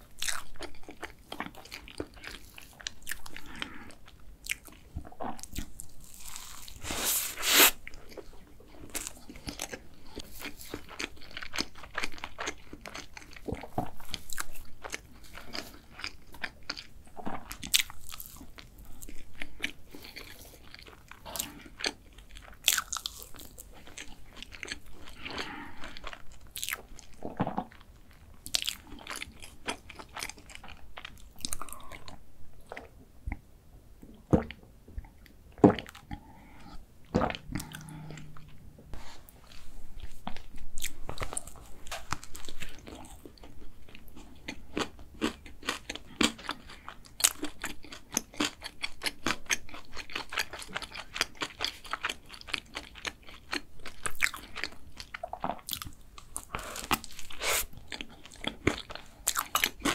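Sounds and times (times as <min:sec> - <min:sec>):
person chewing cake: 0:00.0 - 0:33.5, 0:34.1 - 0:59.9.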